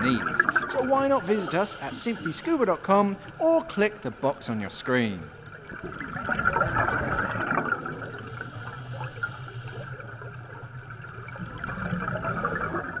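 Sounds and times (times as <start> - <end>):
underwater air bubbles gurgling: 0.0 - 3.4, 5.2 - 13.0.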